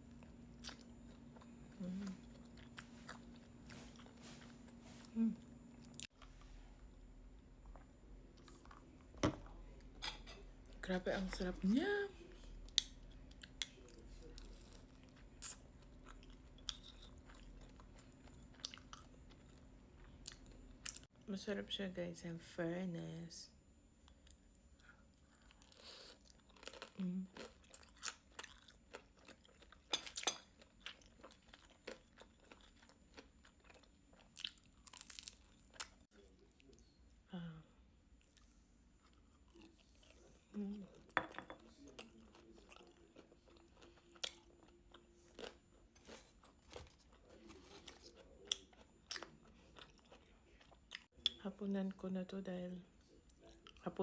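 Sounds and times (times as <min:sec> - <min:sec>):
faint chewing: 0:00.1 - 0:07.0, 0:07.6 - 0:11.3, 0:12.2 - 0:21.1, 0:24.0 - 0:37.2, 0:38.2 - 0:51.4.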